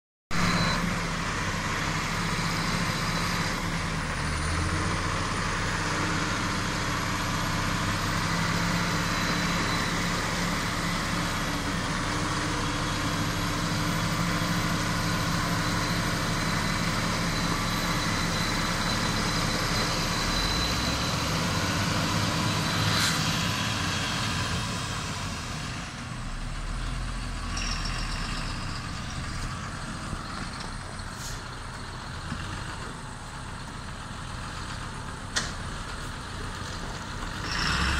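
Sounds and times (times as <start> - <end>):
heavy diesel engines running: 0.3 - 37.9.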